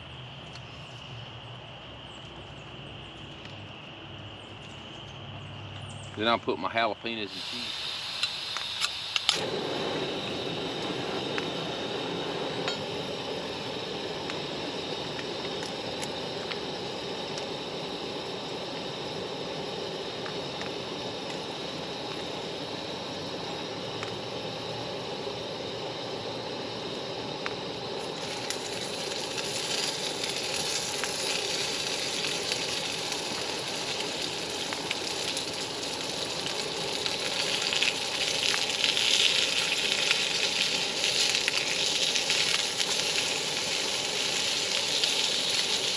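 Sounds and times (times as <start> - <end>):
meat sizzling in a skillet: 7.3 - 45.9.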